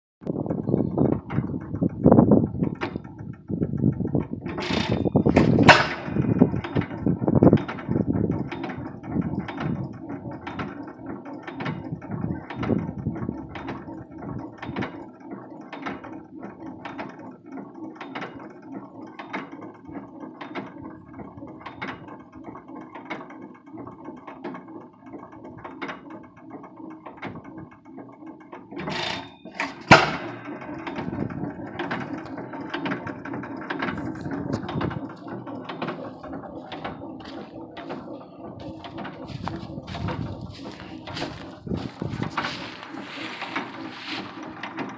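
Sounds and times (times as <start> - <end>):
stationary gas engine chuffing: 0.2 - 44.9.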